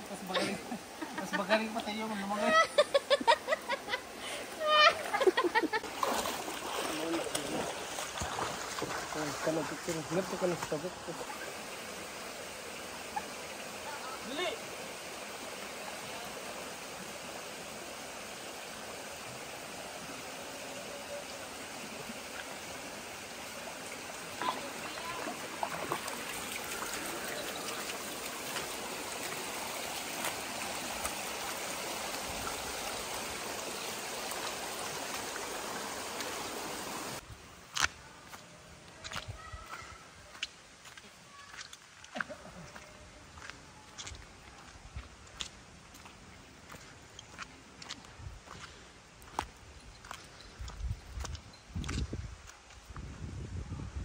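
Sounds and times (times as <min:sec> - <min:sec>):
stream running over rocks: 0:00.0 - 0:53.6.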